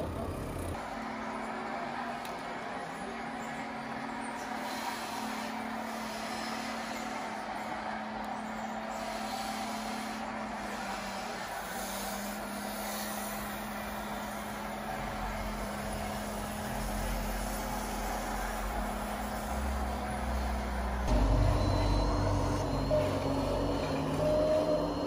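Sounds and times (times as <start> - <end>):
model vehicle mechanical hum: 0.0 - 25.0.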